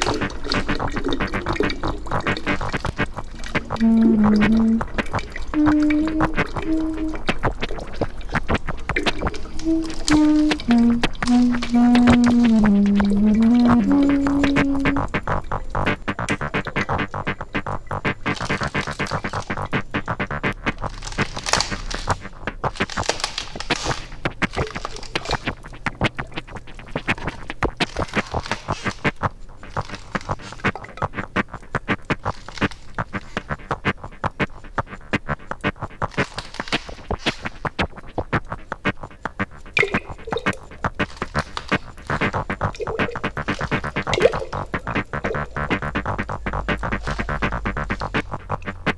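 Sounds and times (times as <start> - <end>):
glitchy electronic music: 0.0 - 48.9.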